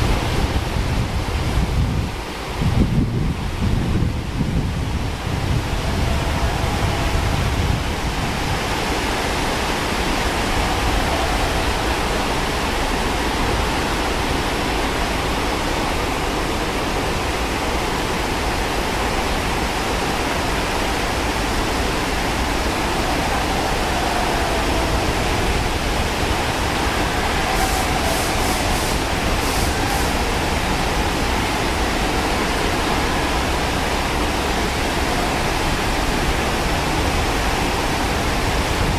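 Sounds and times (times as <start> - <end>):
stream rushing over rocks: 0.0 - 38.9
wind rumble on microphone: 0.0 - 38.9.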